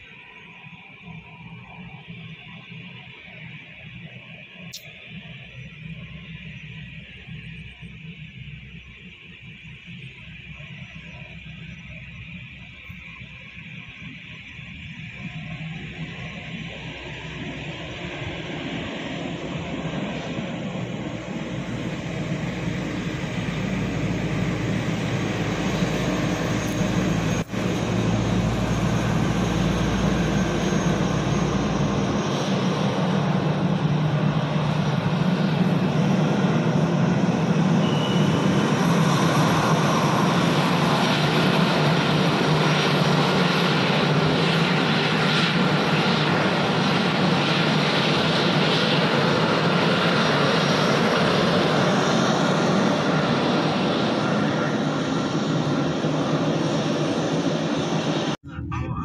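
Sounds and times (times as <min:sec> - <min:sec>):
jet airliner engines running: 0:00.0 - 0:59.0.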